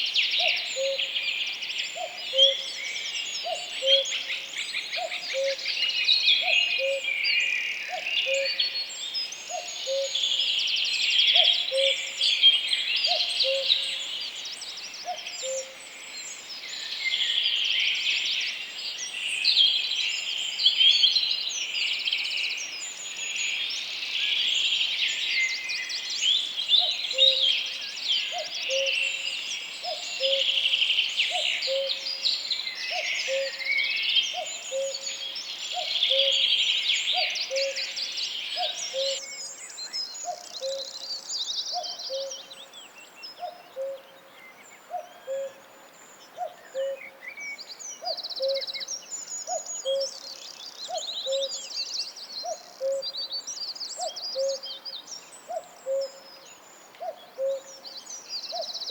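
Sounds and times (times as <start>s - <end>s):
songbirds trilling and warbling: 0.0s - 58.9s.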